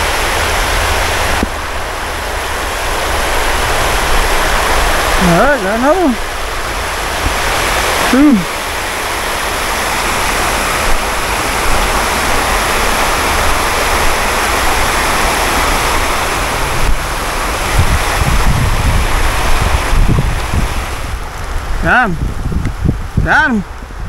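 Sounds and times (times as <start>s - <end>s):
river water spilling over weir: 0.0s - 24.0s.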